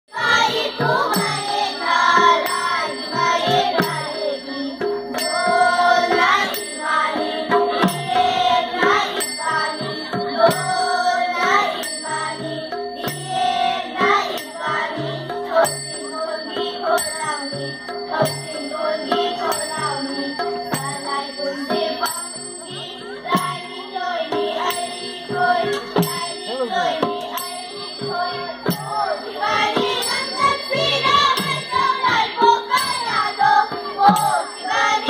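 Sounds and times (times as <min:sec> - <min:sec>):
voices singing a chant: 0:00.1 - 0:35.0
small metal cymbals ringing: 0:00.8 - 0:35.0.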